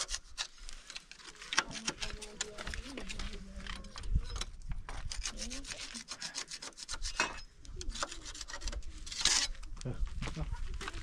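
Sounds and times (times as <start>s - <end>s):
scraping against a hard surface: 0.0s - 9.7s.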